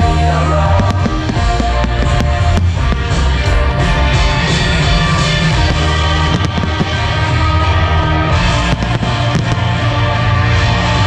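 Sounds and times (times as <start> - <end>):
loud music with heavy bass: 0.0 - 11.0
fireworks bangs: 0.7 - 11.0.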